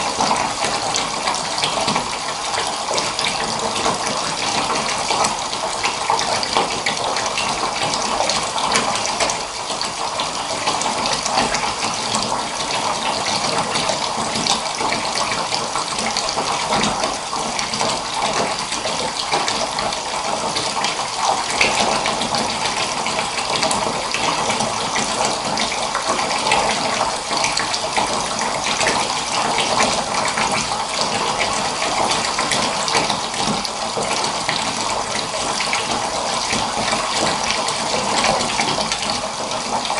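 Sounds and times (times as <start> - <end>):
water running from tap into bathtub: 0.0 - 39.9.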